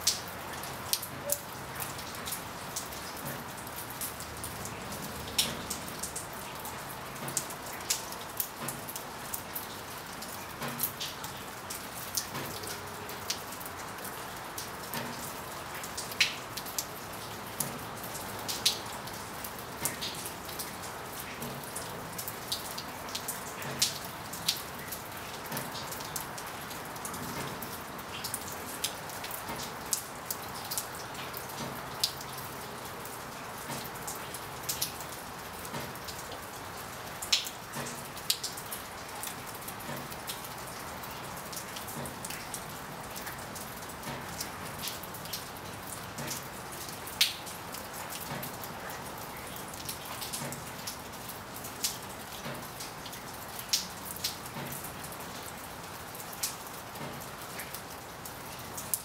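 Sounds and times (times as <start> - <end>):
raindrops tapping close by: 0.0 - 59.0
steady rain hiss: 0.0 - 59.0.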